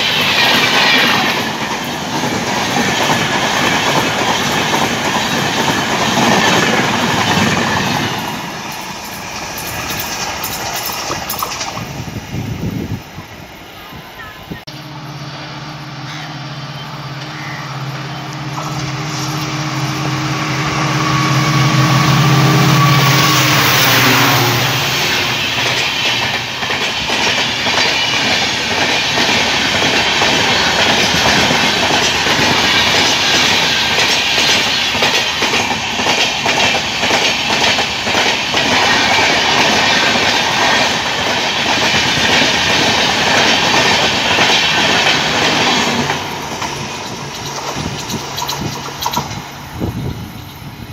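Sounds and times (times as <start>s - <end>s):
train wheels clattering: 0.0s - 13.0s, 21.9s - 50.8s
diesel locomotive engine drone: 0.0s - 50.9s.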